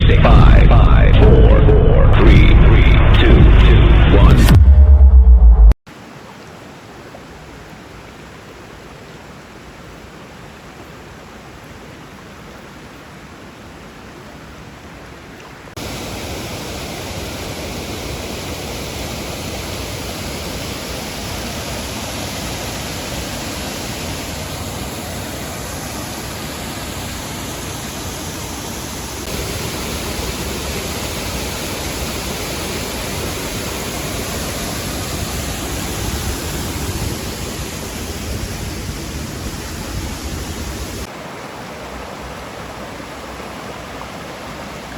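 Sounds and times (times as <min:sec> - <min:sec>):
creek water rushing: 0:05.9 - 0:44.9
waterfall: 0:05.9 - 0:44.9.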